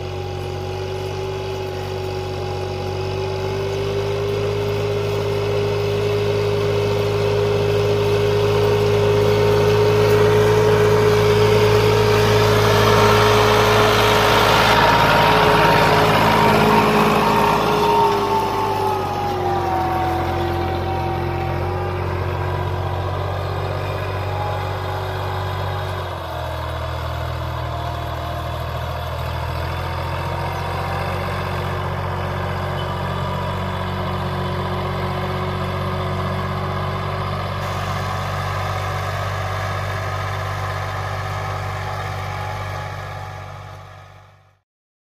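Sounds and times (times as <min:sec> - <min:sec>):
tractor diesel engine running: 0:00.0 - 0:44.6.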